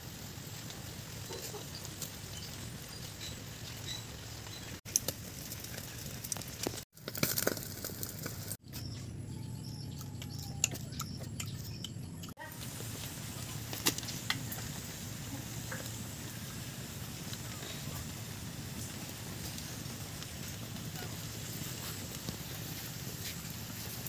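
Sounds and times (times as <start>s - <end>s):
meat sizzling over flames: 0.0s - 8.6s, 12.4s - 24.0s
wood fire crackling: 0.0s - 8.6s, 12.5s - 24.0s.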